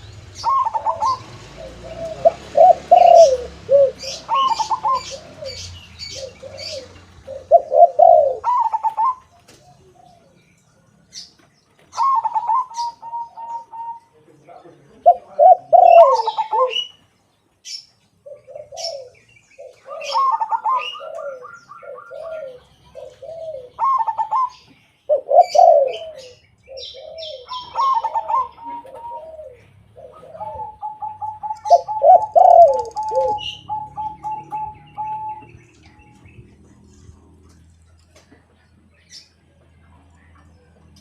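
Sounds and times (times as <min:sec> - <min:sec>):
doves cooing: 0:00.0 - 0:17.2, 0:18.1 - 0:41.0
small birds chirping: 0:00.0 - 0:41.0.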